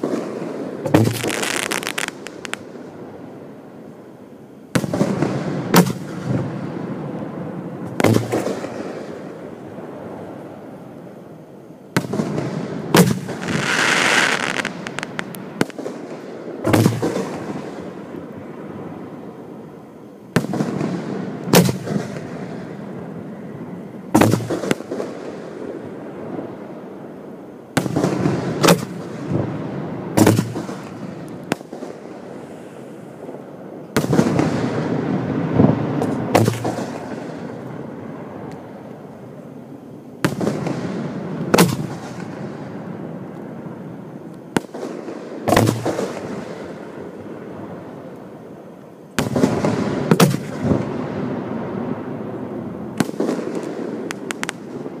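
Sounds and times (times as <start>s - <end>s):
firework booms with rumbling echo: 0.0s - 3.2s, 4.7s - 10.3s, 11.9s - 19.0s, 20.3s - 26.7s, 27.7s - 32.5s, 33.2s - 38.4s, 40.2s - 48.0s, 49.2s - 55.0s.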